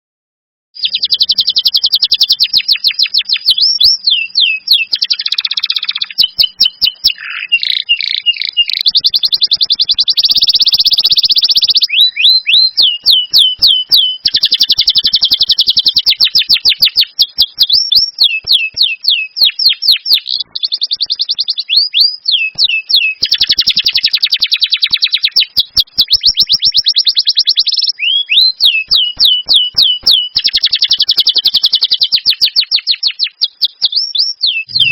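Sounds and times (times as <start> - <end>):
songbird trills and chips: 0.8 - 34.9.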